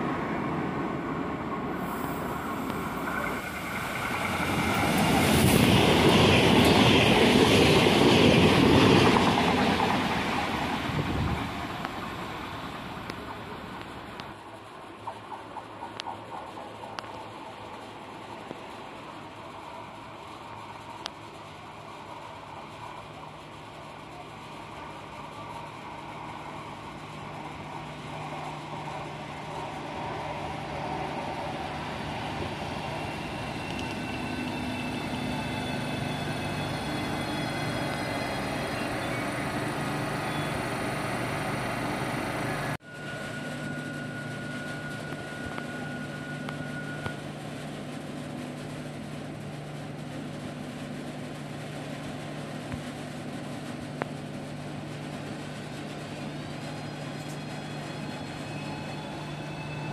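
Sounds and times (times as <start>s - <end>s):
train wheel and running noise: 0.0s - 59.9s.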